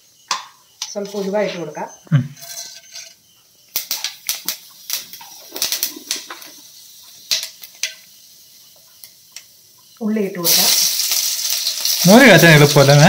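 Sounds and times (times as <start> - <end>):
seeds popping in hot oil: 0.2 - 1.4, 3.6 - 13.0.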